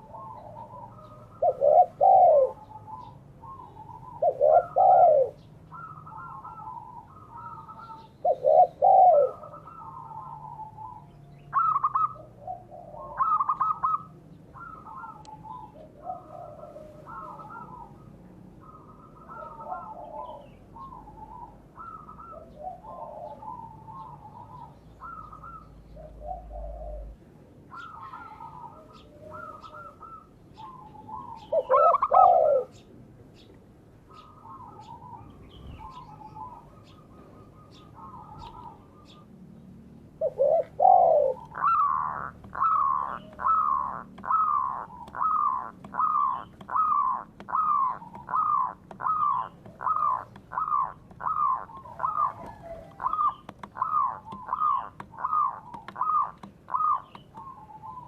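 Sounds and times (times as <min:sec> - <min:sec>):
doves cooing: 0:00.0 - 0:32.9, 0:34.0 - 0:58.0
loud downslurred bird calls: 0:00.0 - 0:58.0.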